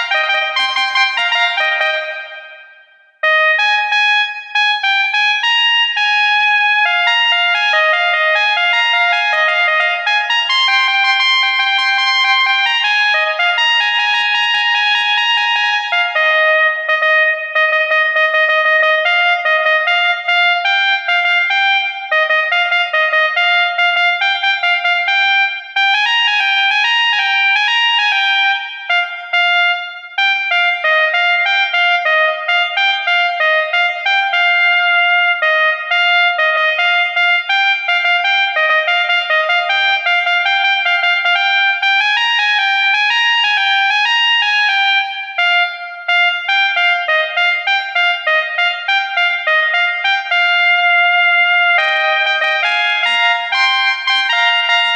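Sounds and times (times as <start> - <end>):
multi-tone air horn melody: 0.0 - 54.9.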